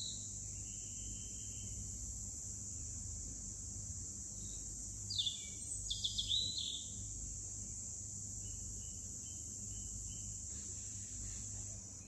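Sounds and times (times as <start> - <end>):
insect drone: 0.0 - 12.0.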